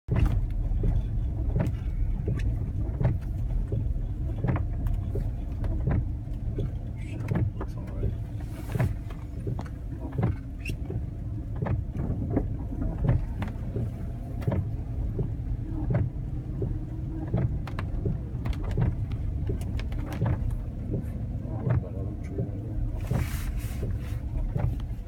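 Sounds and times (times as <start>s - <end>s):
irregular clicks and knocks: 0.1s - 23.2s
car engine and tyres rumbling: 0.1s - 25.0s.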